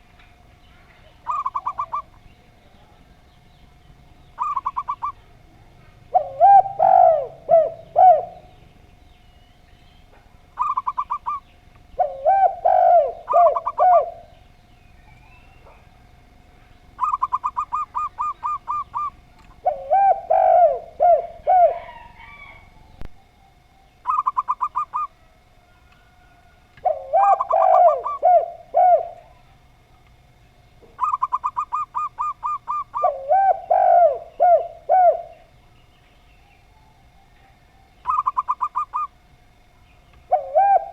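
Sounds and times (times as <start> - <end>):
doves cooing: 0.0 - 40.9
faint steady tone: 0.0 - 40.9.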